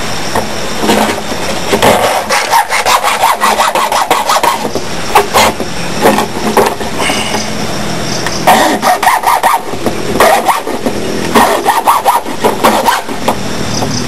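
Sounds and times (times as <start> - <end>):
hand saw cutting plastic pipe: 0.8 - 7.4, 8.5 - 13.4.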